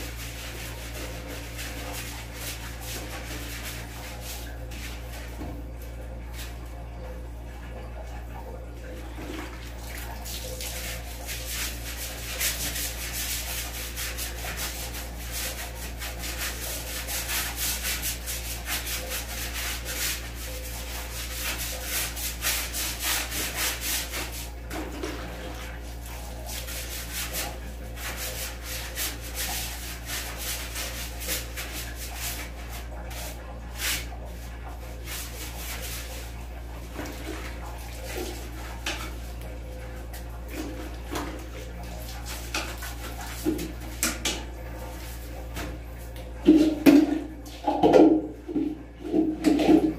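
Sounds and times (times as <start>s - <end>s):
scrubbing toilet by hand: 0.0s - 49.9s.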